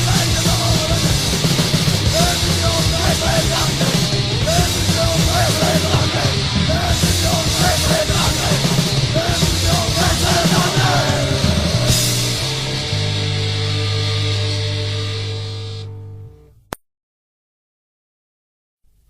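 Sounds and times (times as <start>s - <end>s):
hardcore punk band music: 0.0s - 16.4s.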